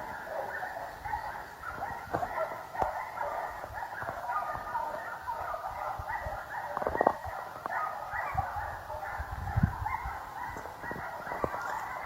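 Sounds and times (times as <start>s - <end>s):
dogs whining and yipping: 0.0s - 12.0s.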